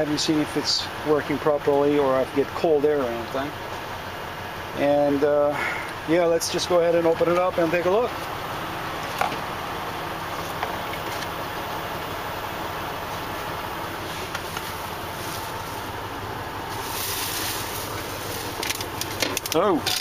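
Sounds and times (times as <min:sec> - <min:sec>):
idling engine hum with hiss: 0:00.0 - 0:20.0.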